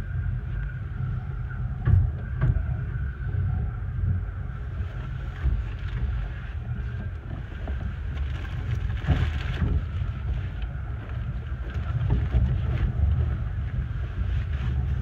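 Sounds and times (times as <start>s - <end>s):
railway carriage rumbling on track: 0.0s - 15.0s
wind buffeting microphone: 0.0s - 15.0s.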